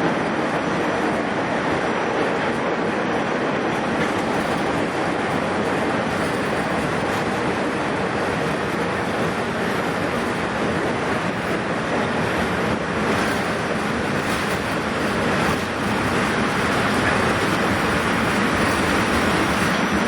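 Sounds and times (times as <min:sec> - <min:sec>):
train car rumbling on rails: 0:00.0 - 0:20.0.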